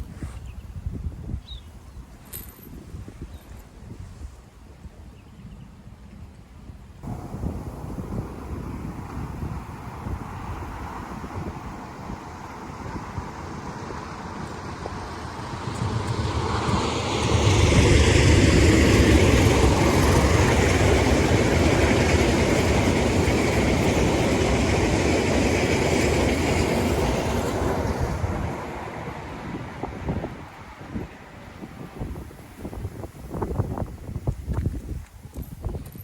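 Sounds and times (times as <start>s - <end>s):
train passing with low rumble: 6.0s - 35.4s.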